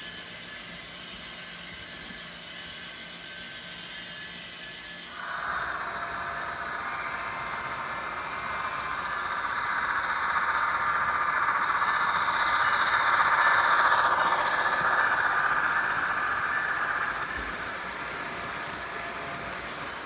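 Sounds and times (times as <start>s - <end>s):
model train rattling hum: 0.0s - 20.0s.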